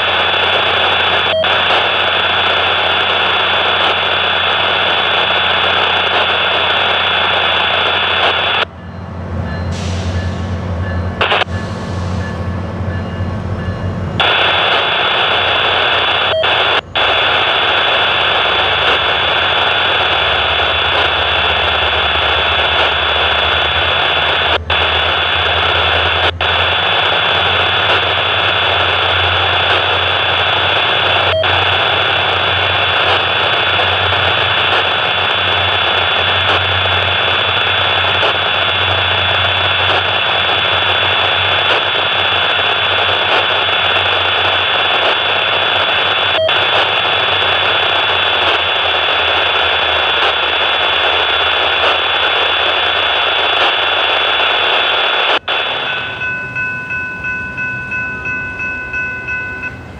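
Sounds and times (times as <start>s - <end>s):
high mechanical whine and hiss: 0.0s - 8.7s, 9.7s - 12.5s, 14.2s - 59.9s
diesel train low rumble: 0.0s - 59.9s.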